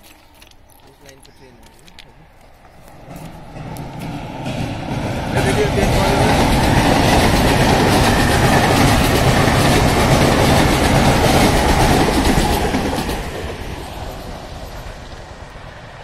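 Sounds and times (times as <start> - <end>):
train wheels rumbling on rails: 0.2 - 16.0.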